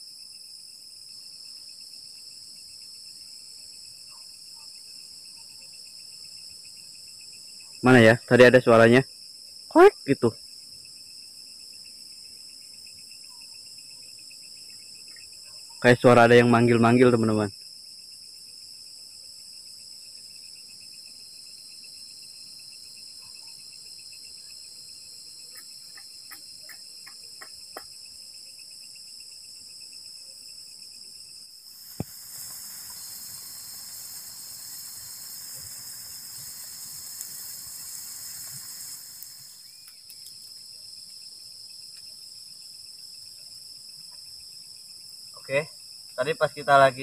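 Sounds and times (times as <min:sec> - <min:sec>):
crickets and insects trilling: 0:00.0 - 0:47.0.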